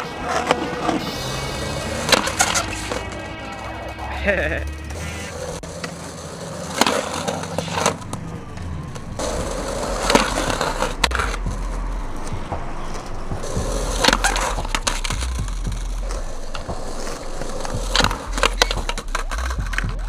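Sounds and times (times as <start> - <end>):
skateboard wheels rumbling: 0.0 - 20.0
skateboard clacks: 1.9 - 3.3, 4.9 - 20.0.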